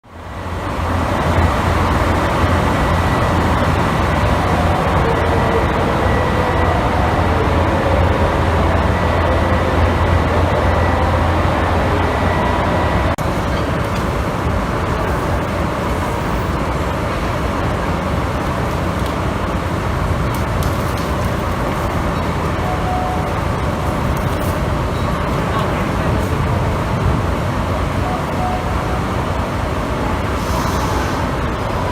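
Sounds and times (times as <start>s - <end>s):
locomotive engine idling: 0.2s - 31.9s.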